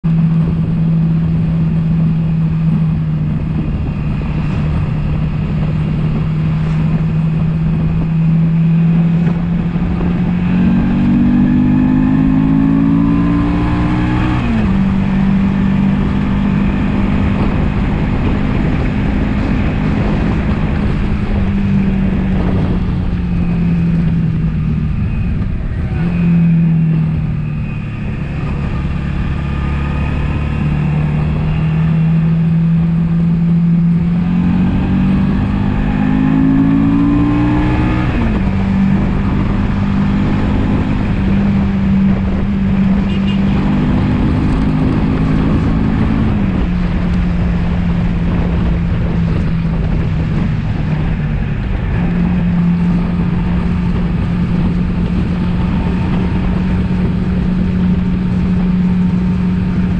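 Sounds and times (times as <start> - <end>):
wind rushing: 0.2 - 59.9.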